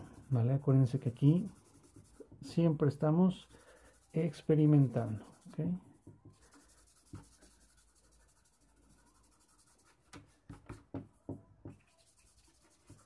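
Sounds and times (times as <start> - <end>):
fingertip rubbing charcoal on paper: 0.0 - 2.6, 3.3 - 10.2, 11.7 - 13.0.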